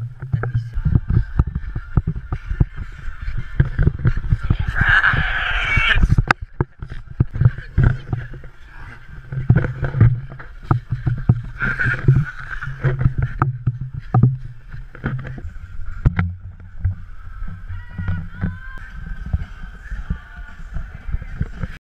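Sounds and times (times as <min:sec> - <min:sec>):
running footsteps: 0:00.0 - 0:21.8.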